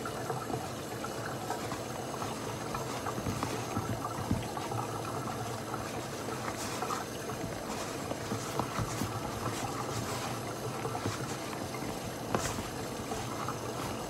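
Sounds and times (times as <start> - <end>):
low hum and hiss: 0.0 - 14.0
hand tapping dough in plastic bowl: 1.5 - 14.0.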